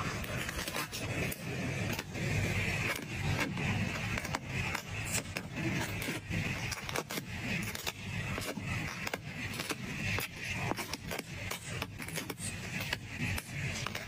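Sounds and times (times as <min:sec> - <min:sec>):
materials scraping and rubbing: 0:00.0 - 0:14.0.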